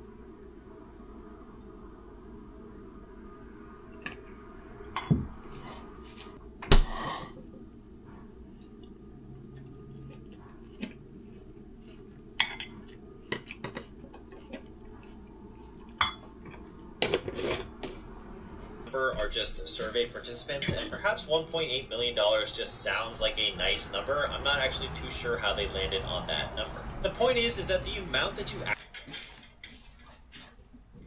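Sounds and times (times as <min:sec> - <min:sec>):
steady low hum: 0:00.0 - 0:29.3.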